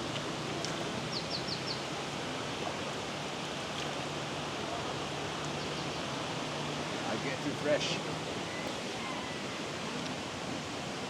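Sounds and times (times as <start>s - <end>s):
running water rushing: 1.8s - 11.0s.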